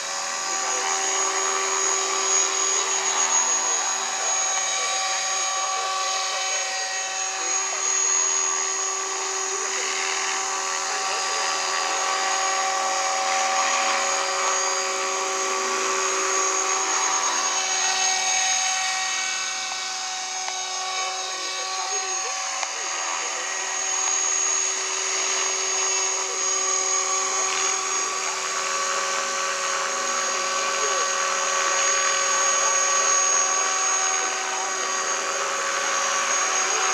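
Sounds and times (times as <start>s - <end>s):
model helicopter motor whine: 0.0s - 36.9s.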